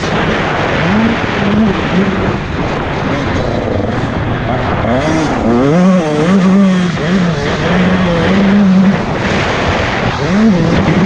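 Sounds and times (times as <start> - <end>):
motocross bike engine revving: 0.0 - 11.0.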